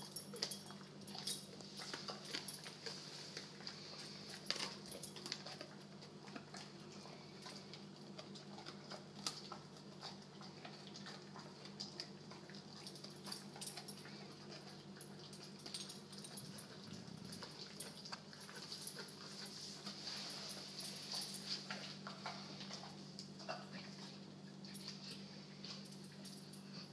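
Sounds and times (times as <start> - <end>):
dog chewing: 0.0 - 26.8
steady low hum: 0.0 - 26.9.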